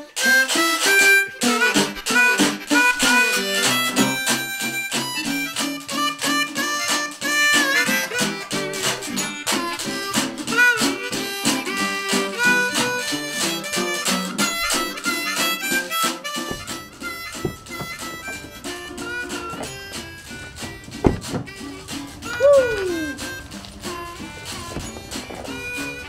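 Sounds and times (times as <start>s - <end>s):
blues guitar: 0.0s - 26.0s
harmonica playing: 0.0s - 26.0s.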